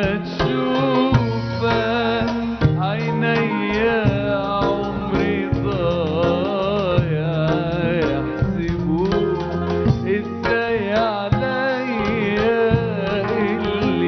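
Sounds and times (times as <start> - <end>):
bass guitar: 0.0 - 14.0
hand drum playing: 0.0 - 14.0
man singing ornamented melody: 0.0 - 14.0.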